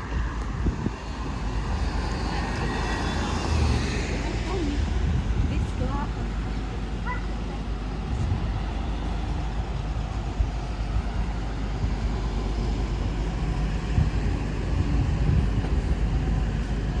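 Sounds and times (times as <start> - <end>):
traffic on wet asphalt: 0.0 - 17.0.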